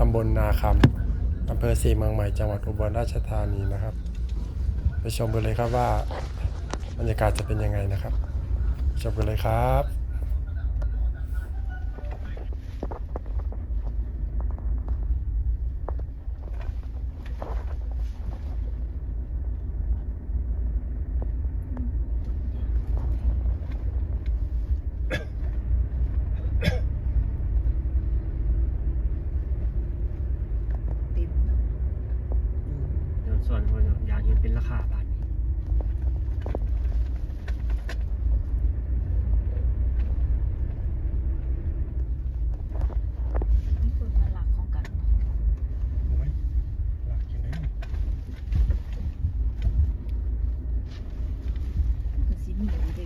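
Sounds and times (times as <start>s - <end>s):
vehicle rumbling on the move: 0.0s - 53.0s.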